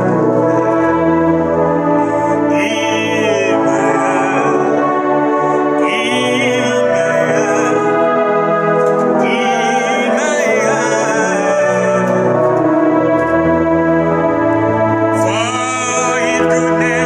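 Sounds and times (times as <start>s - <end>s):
electronic keyboard organ chords: 0.0s - 17.0s
man singing worship song: 0.0s - 17.0s.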